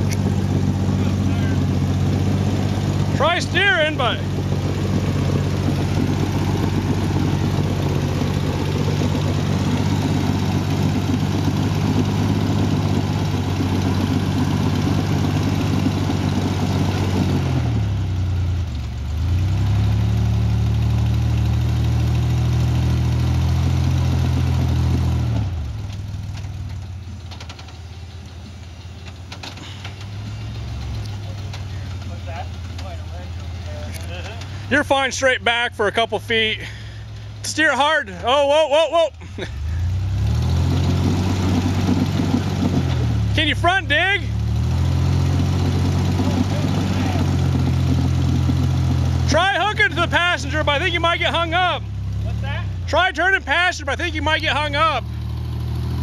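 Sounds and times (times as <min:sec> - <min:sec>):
off-road vehicle engine under load: 0:00.0 - 0:56.0.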